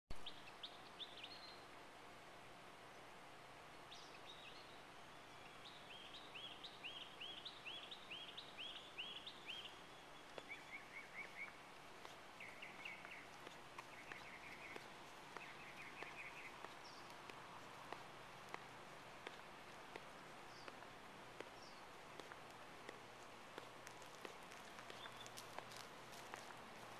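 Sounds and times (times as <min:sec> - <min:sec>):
faint outdoor hiss: 0:00.1 - 0:26.9
songbirds singing: 0:00.1 - 0:26.9.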